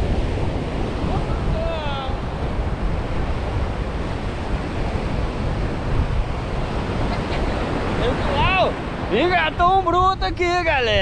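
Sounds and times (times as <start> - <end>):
surf breaking on beach: 0.0 - 11.0
wind rumbling on microphone: 0.0 - 11.0.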